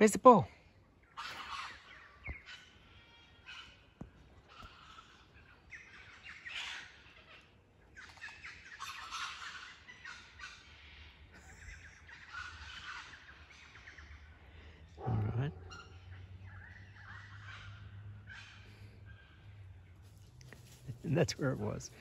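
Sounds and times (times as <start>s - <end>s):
birds chirping and calling: 0.9s - 22.0s.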